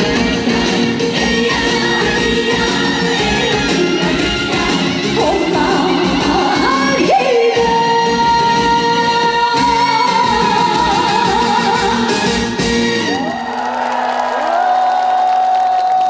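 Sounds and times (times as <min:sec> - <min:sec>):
live band music: 0:00.0 - 0:13.5.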